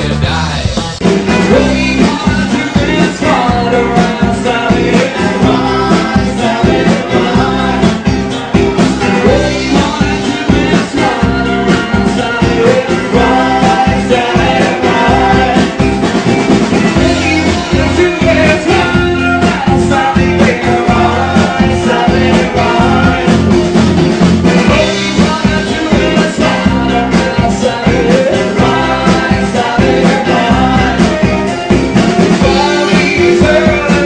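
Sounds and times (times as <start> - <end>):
person singing: 0.0 - 16.2, 16.9 - 23.7, 24.4 - 34.0
live band playing: 0.0 - 34.0.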